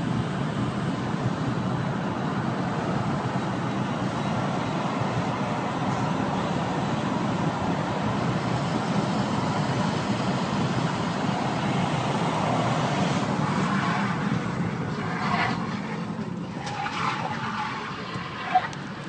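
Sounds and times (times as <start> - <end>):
vehicle road noise: 0.0 - 19.0.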